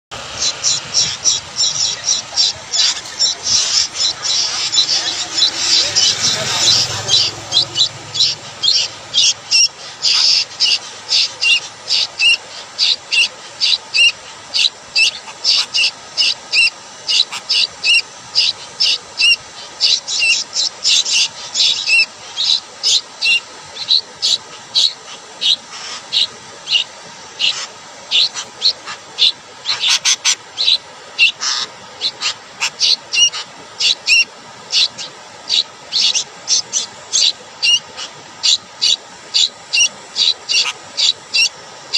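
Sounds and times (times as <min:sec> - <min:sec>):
bird chirping: 0:00.1 - 0:41.6.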